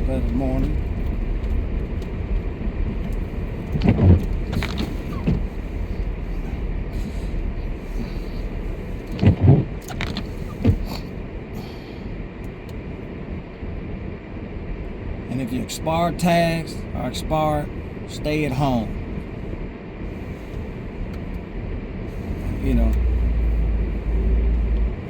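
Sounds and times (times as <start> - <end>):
low rumble of car on road: 0.0 - 25.0.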